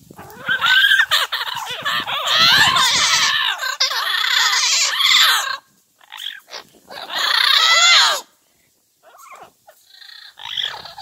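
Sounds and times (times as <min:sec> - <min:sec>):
parrots calling: 0:00.2 - 0:08.3, 0:09.0 - 0:11.0.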